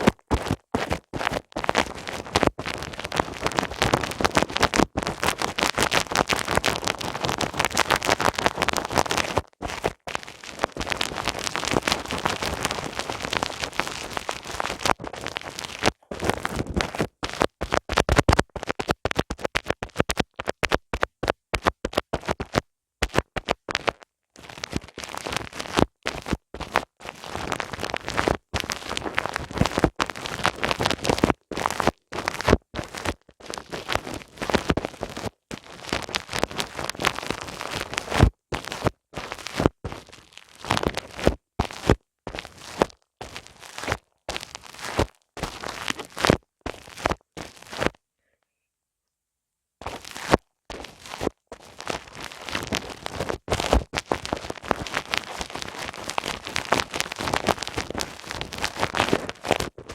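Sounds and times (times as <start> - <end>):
rubbing and scratching on microphone: 0.0 - 48.4, 49.8 - 59.9.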